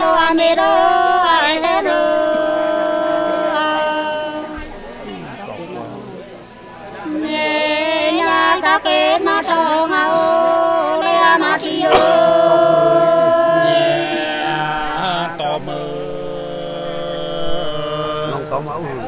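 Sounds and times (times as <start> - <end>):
voices singing folk song: 0.0 - 5.0, 5.8 - 19.0.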